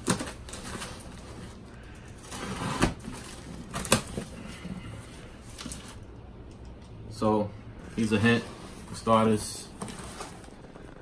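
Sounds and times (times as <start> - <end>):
cardboard rustling: 0.0 - 6.0, 7.8 - 11.0.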